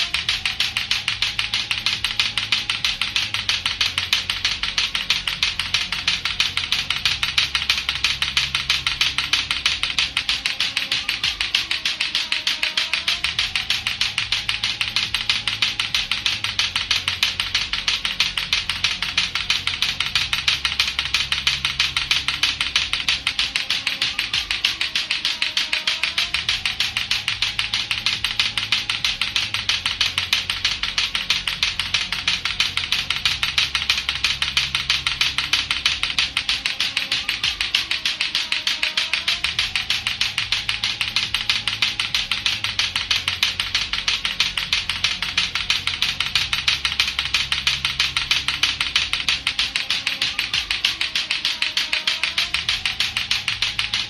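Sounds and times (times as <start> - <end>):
clacker toy balls clacking: 0.0 - 54.0.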